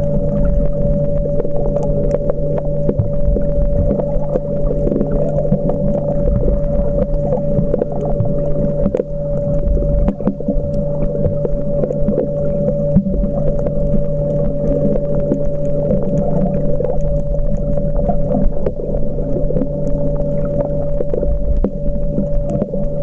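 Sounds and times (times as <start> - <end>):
low underwater rumble: 0.0 - 23.0
underwater hum with constant tone: 0.0 - 23.0.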